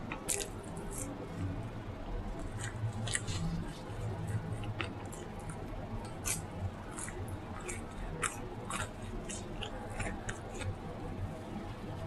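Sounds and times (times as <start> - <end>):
chewing and mouth smacking: 0.0 - 1.6, 2.4 - 10.9
low steady hum: 0.0 - 12.0.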